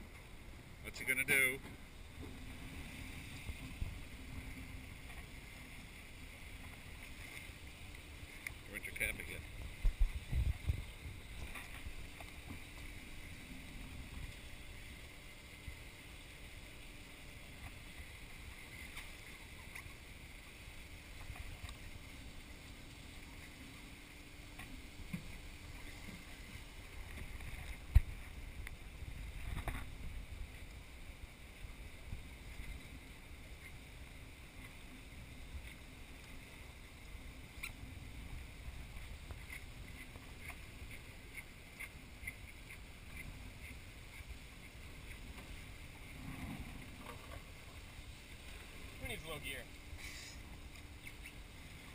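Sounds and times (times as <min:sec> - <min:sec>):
sea noise: 0:00.0 - 0:51.9
wind: 0:00.0 - 0:51.9.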